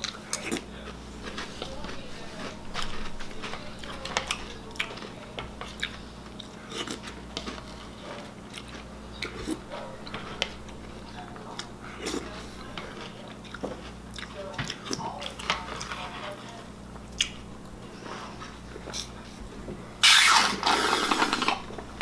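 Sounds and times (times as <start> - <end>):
chewing crunchy cereal: 0.0 - 22.0
steady low hum: 0.0 - 22.0.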